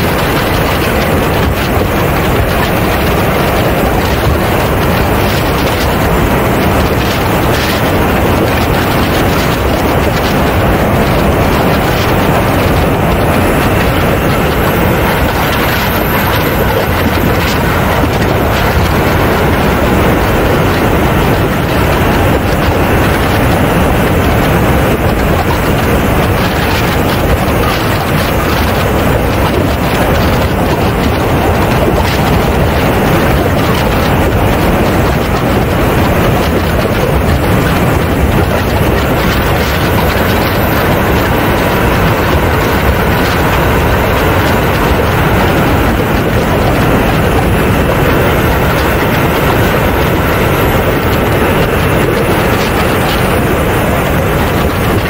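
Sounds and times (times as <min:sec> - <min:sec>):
model jet turbines running: 0:00.0 - 0:55.0
wind rushing over camera: 0:00.0 - 0:55.0.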